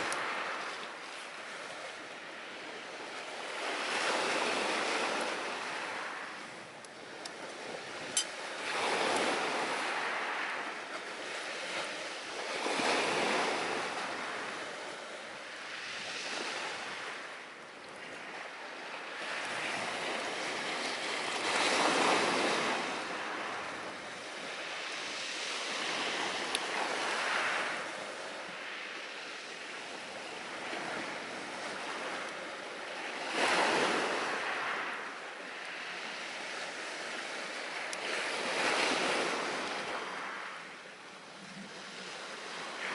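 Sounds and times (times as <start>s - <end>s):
ocean surf washing on shore: 0.0s - 42.9s.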